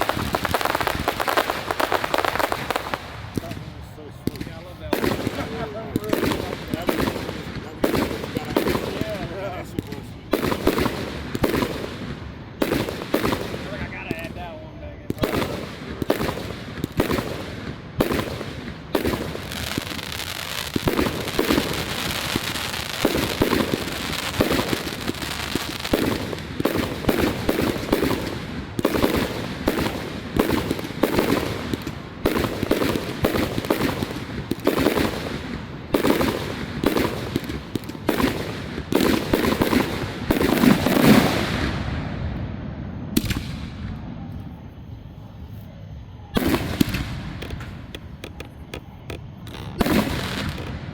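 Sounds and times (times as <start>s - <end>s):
fireworks crackle and hiss: 0.0s - 42.5s, 43.1s - 44.8s, 45.5s - 50.9s
fireworks bursts: 0.0s - 44.6s, 46.3s - 50.9s.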